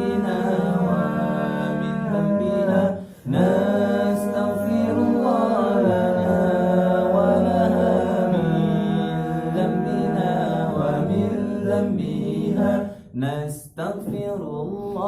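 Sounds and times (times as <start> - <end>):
vocal group singing a cappella: 0.0 - 15.0.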